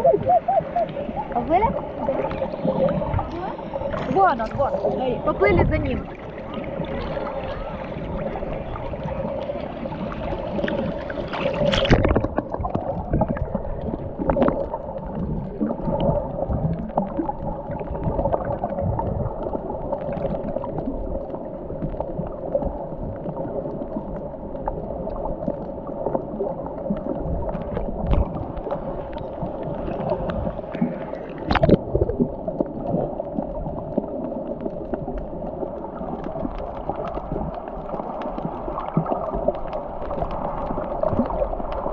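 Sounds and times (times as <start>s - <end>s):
muffled underwater water wash: 0.0s - 41.9s.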